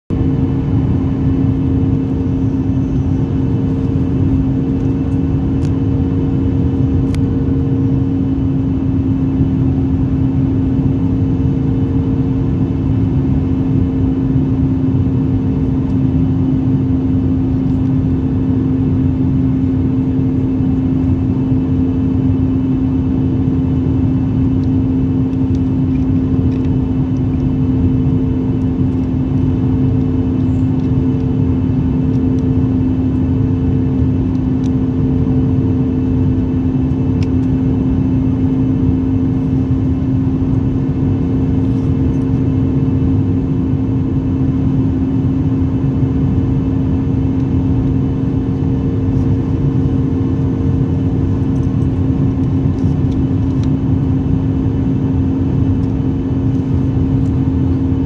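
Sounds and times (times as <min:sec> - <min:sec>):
airliner cabin engine rumble: 0:00.1 - 0:58.0
constant low drone: 0:00.1 - 0:58.0.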